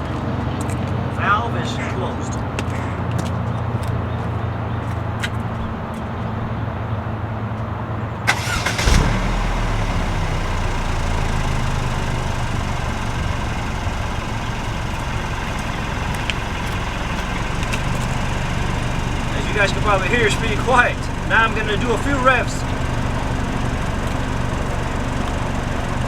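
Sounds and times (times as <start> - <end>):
car engine starting and idling: 0.1 - 26.0.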